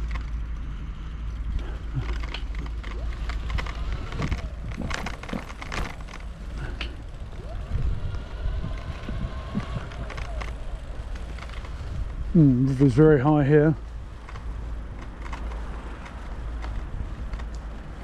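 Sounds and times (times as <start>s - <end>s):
bicycle frame rattling and clicking: 0.0s - 18.0s
wind rumble on microphone: 0.0s - 18.0s.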